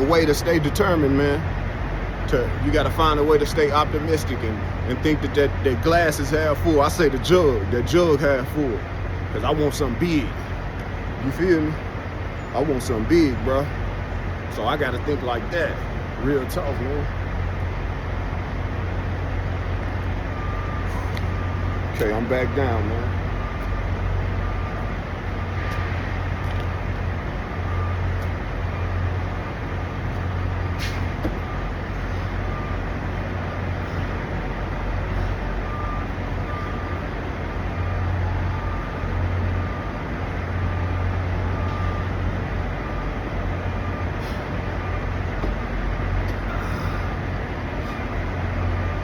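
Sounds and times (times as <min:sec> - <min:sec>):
diesel truck engines idling: 0:00.0 - 0:49.0.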